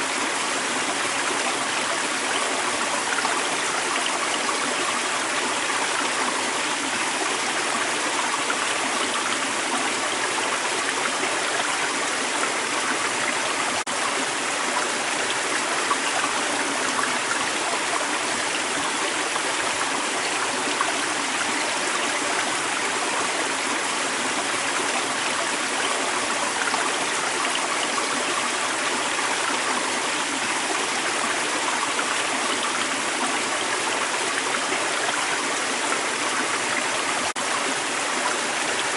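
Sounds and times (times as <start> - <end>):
creek water running: 0.0 - 38.9.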